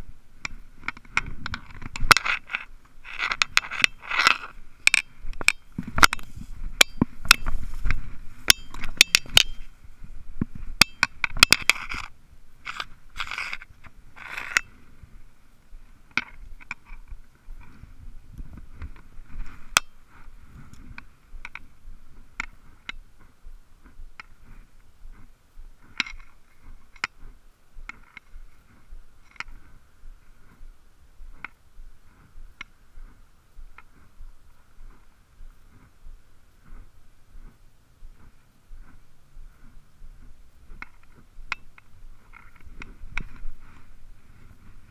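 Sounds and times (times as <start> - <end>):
brush scraping against camera: 0.0 - 44.9.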